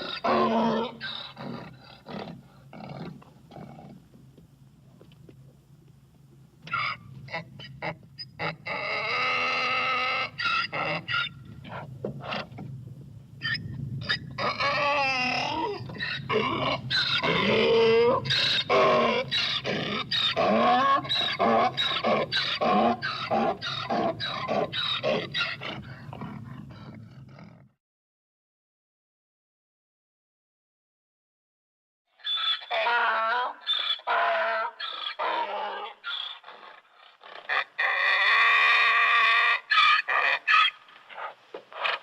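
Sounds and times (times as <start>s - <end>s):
donkey braying: 0.0s - 4.1s, 6.6s - 12.7s, 13.4s - 27.6s, 32.2s - 42.0s.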